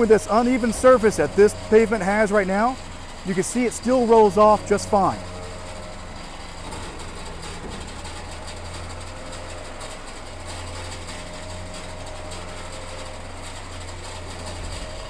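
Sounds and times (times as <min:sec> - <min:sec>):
diesel engine idling: 0:00.0 - 0:15.0
steel box rolling on rollers: 0:00.0 - 0:15.0.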